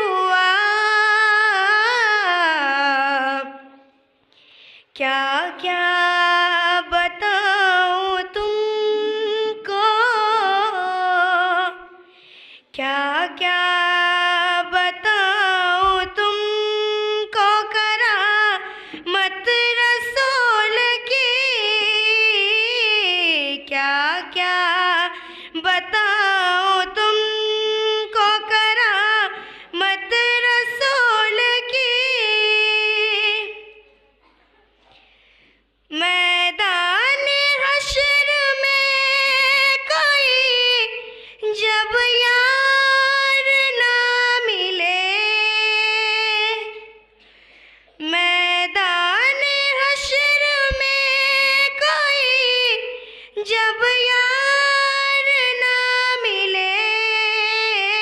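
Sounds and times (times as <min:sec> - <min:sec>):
woman singing unaccompanied: 0:00.0 - 0:03.8, 0:05.0 - 0:12.0, 0:12.8 - 0:33.8, 0:35.9 - 0:47.0, 0:48.0 - 0:58.0.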